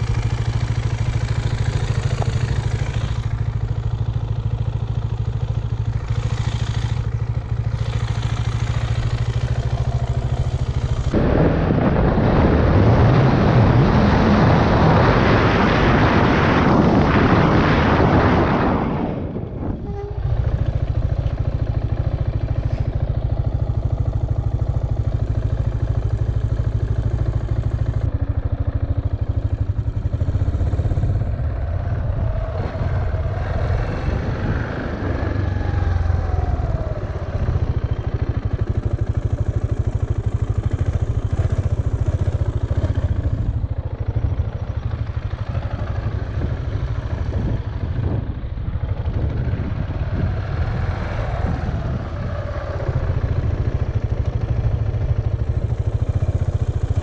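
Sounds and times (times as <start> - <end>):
motorcycle engine: 0.0 - 57.0
wind rushing over microphone: 5.8 - 57.0.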